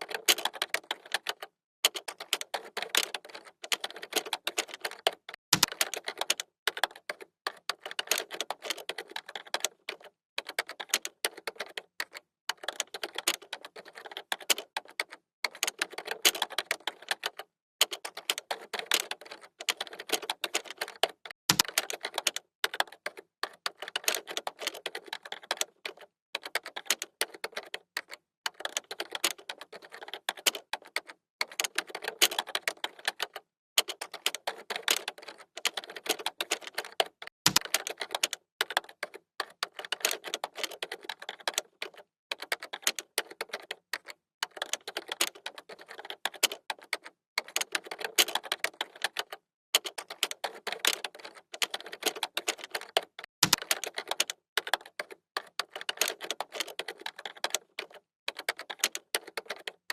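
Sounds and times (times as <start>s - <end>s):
rapid keyboard typing: 0.0s - 59.9s.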